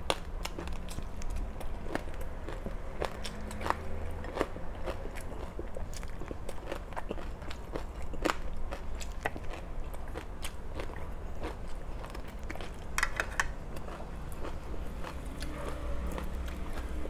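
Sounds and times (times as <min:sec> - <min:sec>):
crunchy food chewing: 0:00.0 - 0:17.0.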